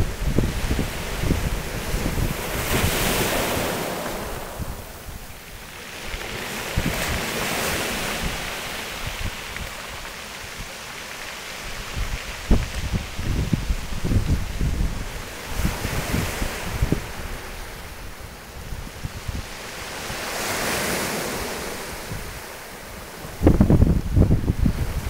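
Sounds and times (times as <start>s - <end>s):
waves surging over stony shore: 0.0s - 25.0s
wind buffeting microphone: 0.0s - 25.0s.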